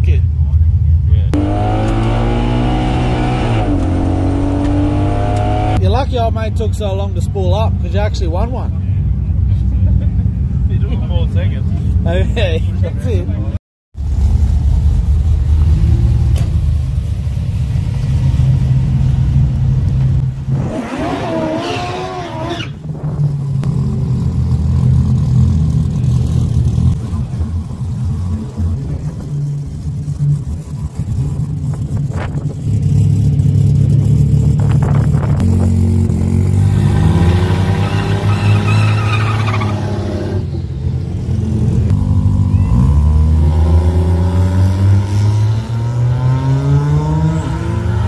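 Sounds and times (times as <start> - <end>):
car engine rumbling and revving: 0.0 - 48.0.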